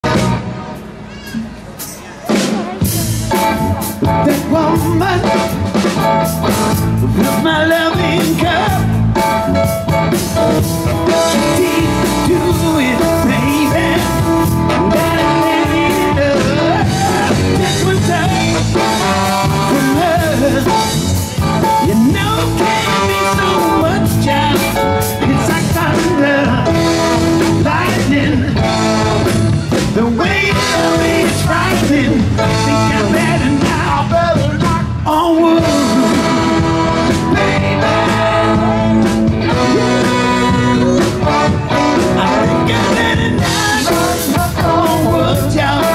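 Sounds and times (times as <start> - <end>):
blues-rock band playing: 0.0 - 45.9.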